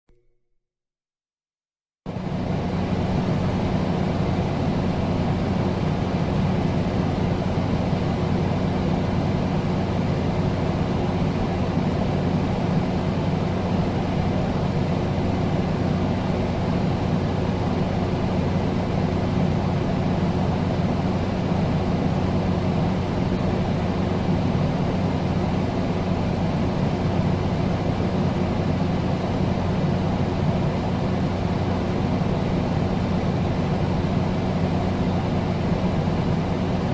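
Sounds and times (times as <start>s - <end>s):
air conditioner blowing air: 2.1s - 36.9s
low constant hum: 2.1s - 36.9s.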